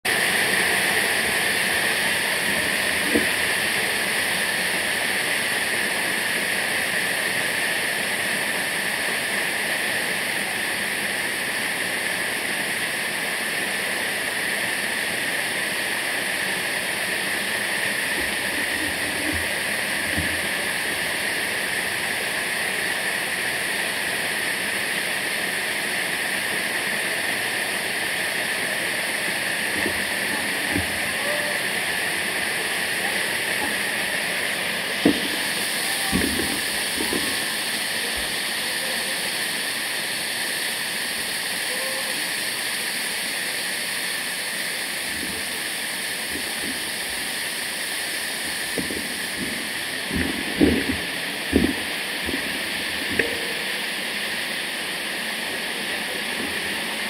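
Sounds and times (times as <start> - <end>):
waterfall rushing: 0.1 - 57.0.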